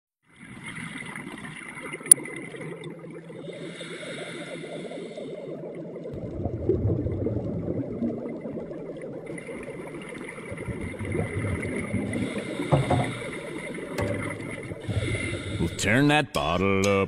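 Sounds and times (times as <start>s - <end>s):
underwater bubbling and gurgling: 0.2s - 15.8s.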